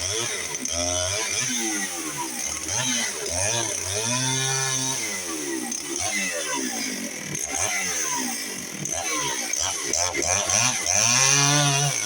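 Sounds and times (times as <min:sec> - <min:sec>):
chainsaw cutting log: 0:00.0 - 0:12.0.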